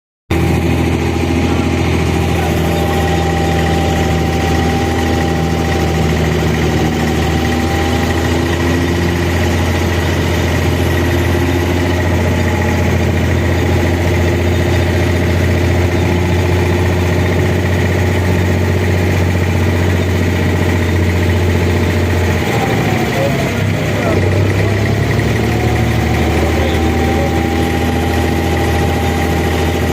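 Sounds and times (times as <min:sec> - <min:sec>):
boat diesel engine droning: 0:00.3 - 0:29.9.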